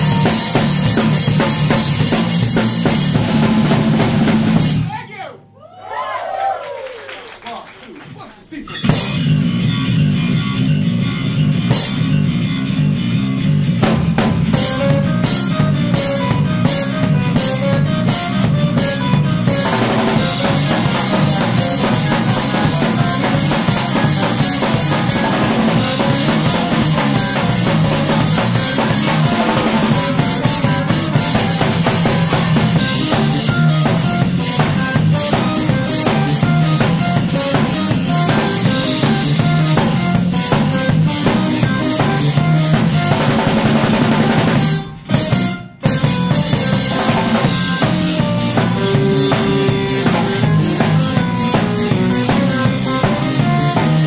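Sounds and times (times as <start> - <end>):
electric bass line: 0.0 - 4.9, 8.7 - 54.0
drum kit with cymbals: 0.0 - 5.2, 8.6 - 54.0.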